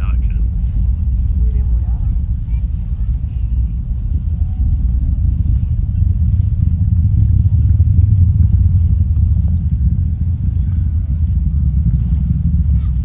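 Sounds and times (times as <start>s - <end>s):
distant rocket engines rumbling: 0.0s - 13.0s.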